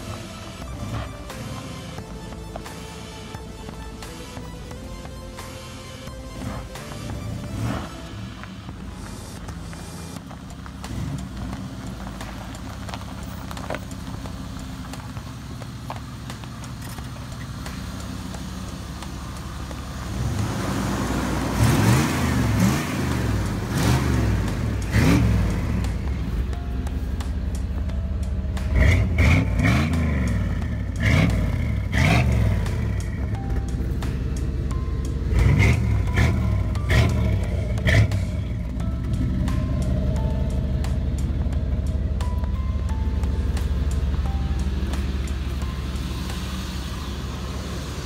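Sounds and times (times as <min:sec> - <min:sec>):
pickup engine idling and revving: 0:00.0 - 0:48.0.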